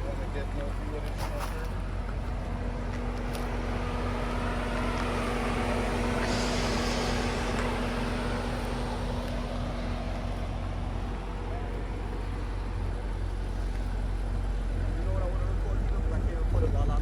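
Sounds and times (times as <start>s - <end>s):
vehicle drone: 0.0s - 17.0s.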